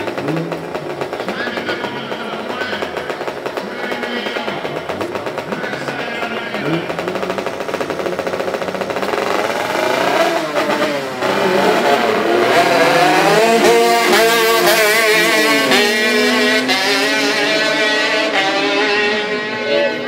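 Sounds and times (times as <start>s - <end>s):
car engine revving hard: 0.0s - 20.0s
racing kart engine revving: 0.0s - 20.0s.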